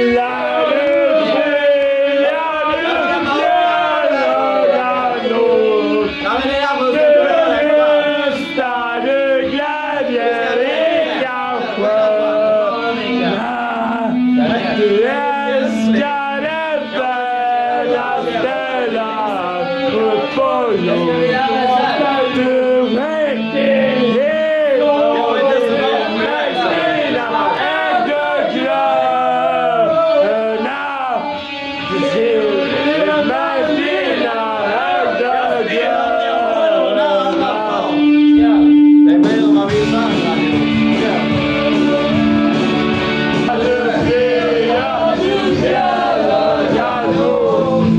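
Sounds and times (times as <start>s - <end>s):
guitar: 0.0s - 47.9s
musical accompaniment: 0.0s - 47.9s
person singing: 0.0s - 47.9s.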